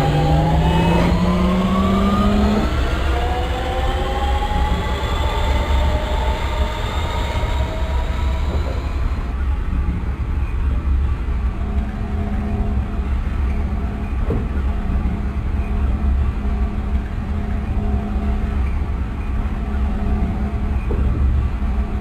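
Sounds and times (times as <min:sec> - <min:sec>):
electric train traction whine: 0:00.0 - 0:22.0
train running gear rumble: 0:00.0 - 0:22.0.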